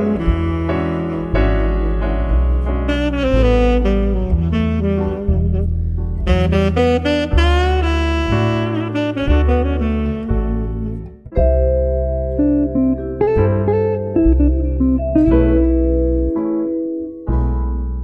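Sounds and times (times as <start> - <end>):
saxophone melody: 0.0 - 11.6, 12.3 - 16.2
walking bass line: 0.0 - 18.0.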